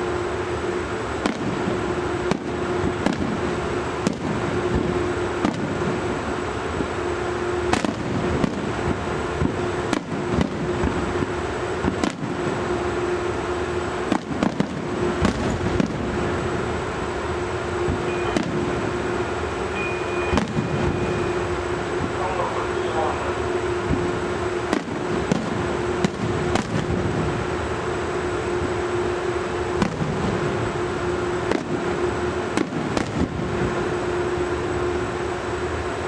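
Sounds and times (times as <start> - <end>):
steady background hum: 0.0 - 36.0
fireworks bangs: 1.1 - 35.0.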